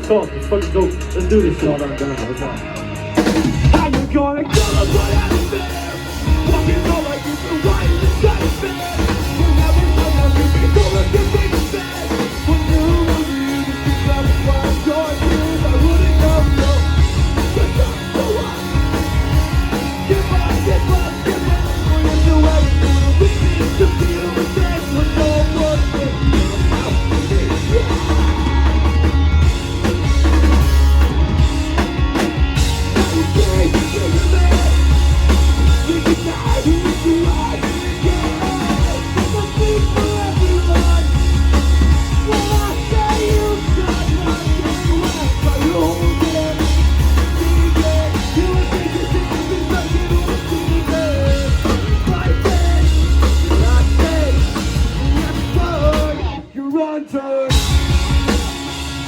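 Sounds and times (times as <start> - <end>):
heavy low bass notes: 0.0 - 56.4, 57.5 - 59.0
live rock band playing: 0.0 - 59.0.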